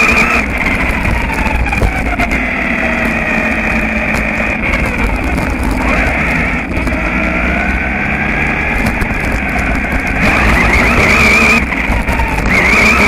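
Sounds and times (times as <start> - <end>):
high wavering motor whine: 0.0 - 13.0
rc buggy rumbling and rattling: 0.0 - 13.0.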